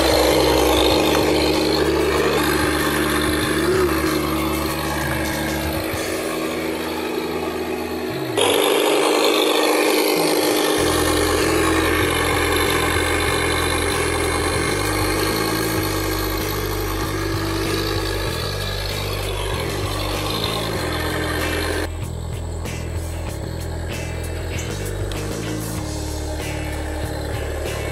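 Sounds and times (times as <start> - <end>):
electric motor and gears whining: 0.0 - 27.9
simulated engine from small speaker: 0.0 - 27.9.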